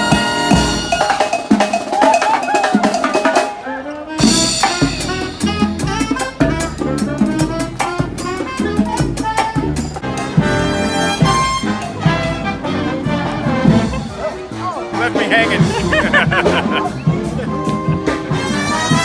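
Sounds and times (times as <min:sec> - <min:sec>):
drum kit: 0:00.0 - 0:03.6, 0:04.2 - 0:19.0
brass band playing: 0:00.0 - 0:19.0.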